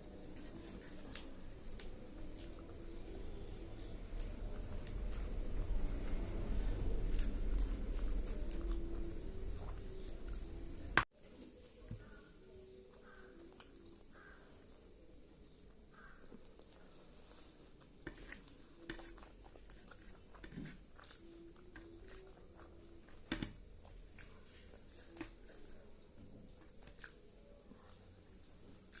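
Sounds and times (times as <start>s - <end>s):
quiet chewing: 0.0s - 5.7s, 6.6s - 29.0s.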